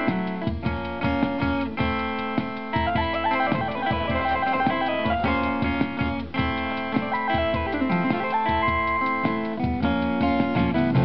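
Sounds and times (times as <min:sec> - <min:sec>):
electronic keyboard melody: 0:00.0 - 0:11.0
strummed acoustic guitar: 0:00.0 - 0:11.0.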